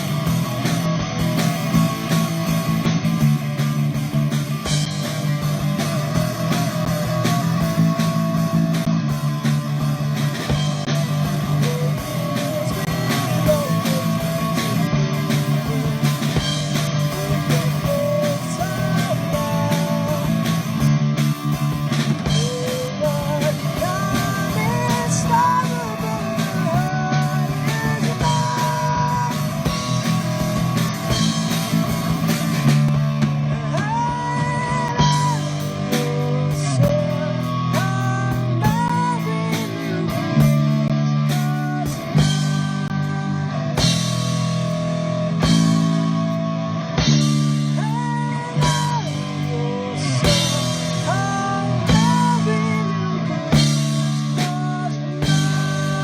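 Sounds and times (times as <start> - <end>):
bass line: 0.0 - 56.0
drums: 0.0 - 56.0
lead guitar melody: 0.0 - 56.0.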